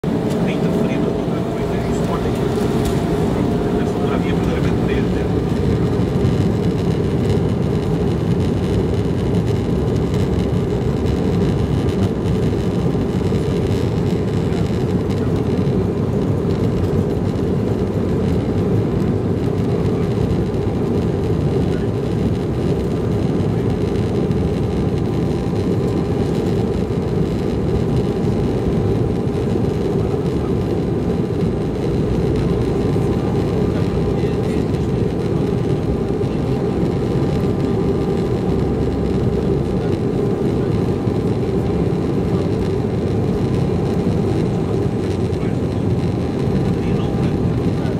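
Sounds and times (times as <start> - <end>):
aircraft cabin rumble: 0.0 - 47.9
faint steady whine: 0.0 - 47.9.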